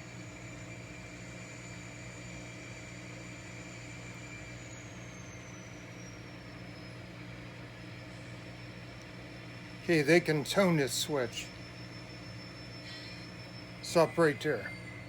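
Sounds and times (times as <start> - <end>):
model locomotive motor humming: 0.0 - 15.0.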